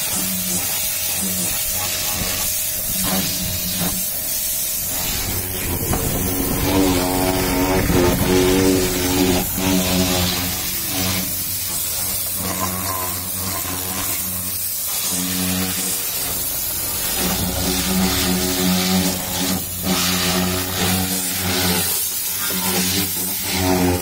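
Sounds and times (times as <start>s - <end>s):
pressure washer motor hum: 0.0s - 24.0s
water jet hissing: 0.0s - 24.0s.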